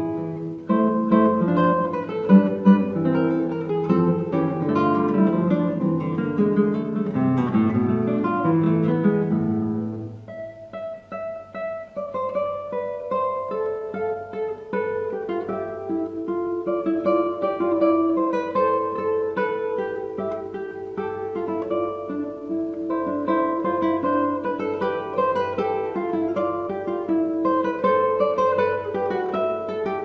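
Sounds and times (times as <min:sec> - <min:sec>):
acoustic guitar plucking: 0:00.0 - 0:30.0.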